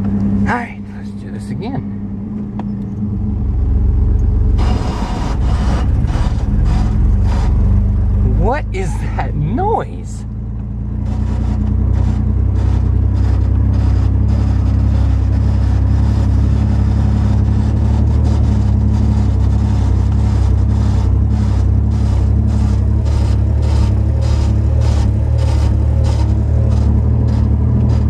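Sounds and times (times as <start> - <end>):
truck engine droning: 0.0 - 28.0.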